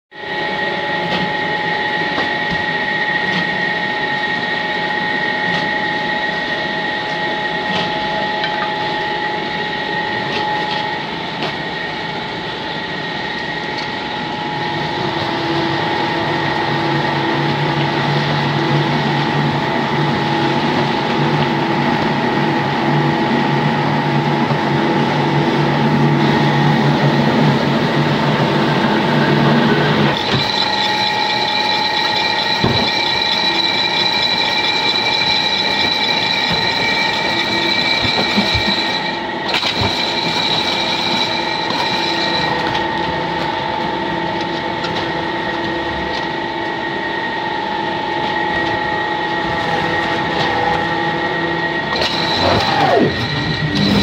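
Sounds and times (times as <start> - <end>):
electric motor whine: 0.2 - 54.0
deeper hum: 3.9 - 54.0.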